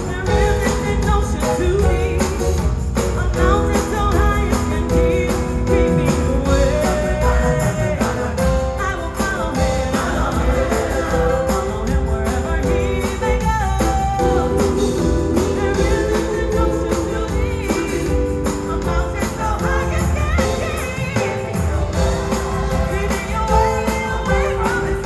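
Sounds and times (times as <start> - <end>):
drum beat: 0.0 - 25.0
gospel choir singing: 0.0 - 25.0.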